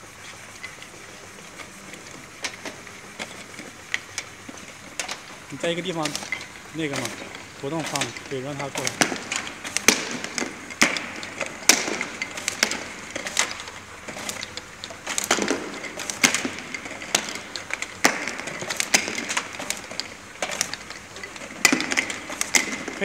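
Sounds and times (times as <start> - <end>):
machine mechanical noise: 0.0 - 23.0
sharp machine clicks and clacks: 2.4 - 23.0.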